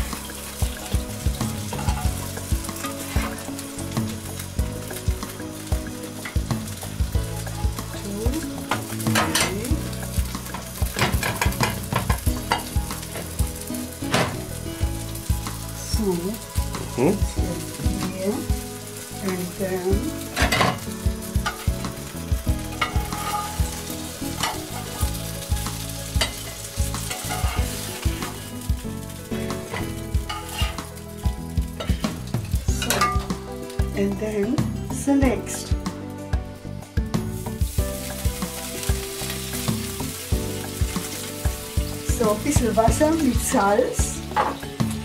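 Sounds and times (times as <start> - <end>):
dumplings sizzling in a pan: 0.0 - 45.0.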